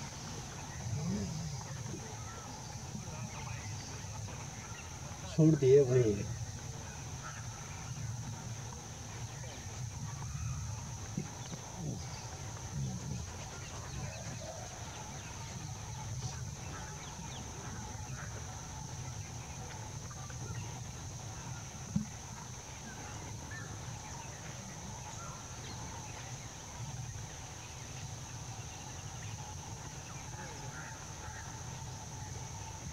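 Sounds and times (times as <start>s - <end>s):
steady high hiss: 0.0s - 32.9s.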